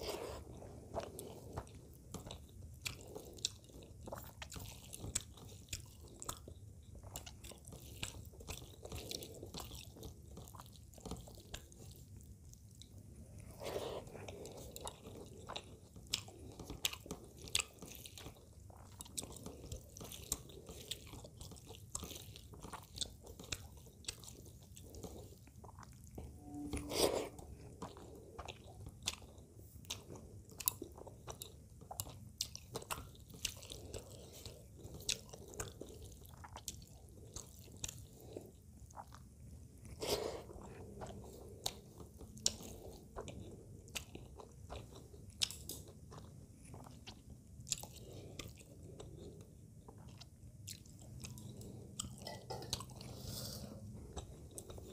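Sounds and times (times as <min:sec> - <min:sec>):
close chewing: 0:00.0 - 0:54.9.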